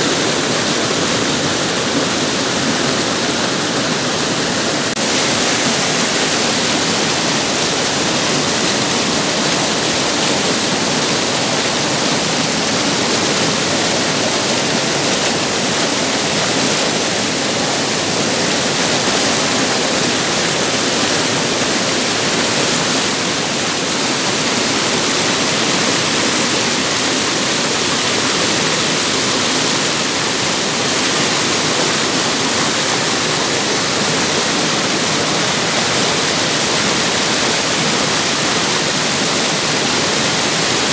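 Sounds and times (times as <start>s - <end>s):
river water rushing over boulders: 0.0s - 40.9s.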